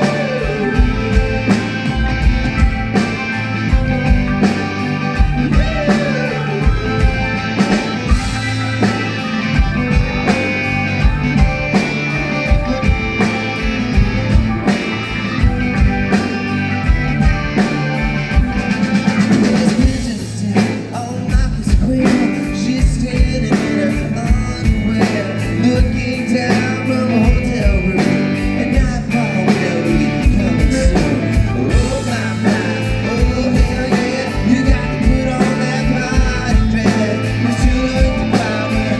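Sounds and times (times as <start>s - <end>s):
electric guitar: 0.0s - 38.9s
live pop-rock band: 0.0s - 38.9s
person singing: 0.0s - 38.9s
steady drum beat: 0.0s - 38.9s.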